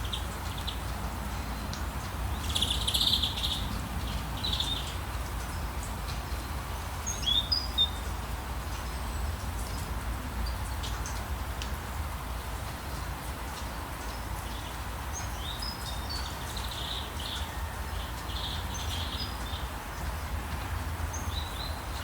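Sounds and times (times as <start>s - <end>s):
songbirds chirping: 0.0s - 11.2s, 13.6s - 22.0s.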